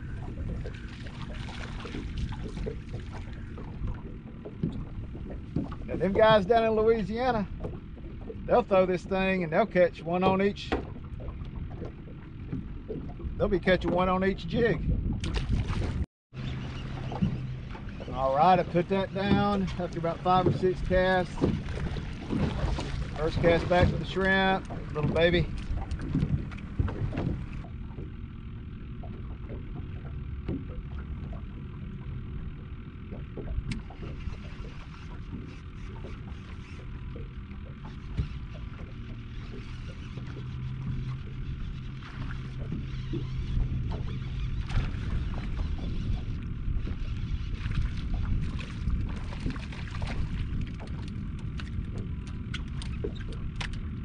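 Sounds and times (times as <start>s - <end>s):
wind rumbling on microphone: 0.0s - 9.4s, 10.1s - 54.0s
water lapping against hull: 0.0s - 54.0s.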